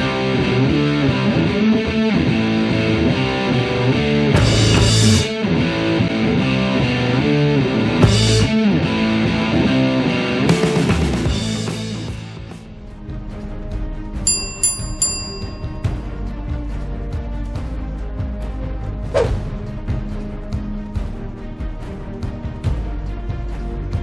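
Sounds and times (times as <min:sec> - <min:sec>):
guitar-led rock music: 0:00.0 - 0:24.0.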